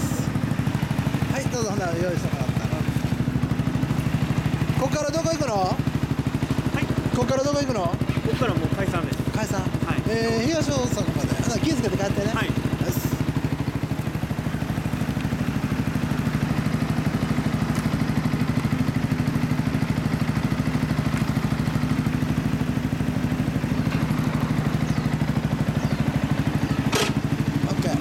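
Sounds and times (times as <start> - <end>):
motorcycle idling: 0.0 - 28.0
other motorcycles idling: 0.0 - 28.0.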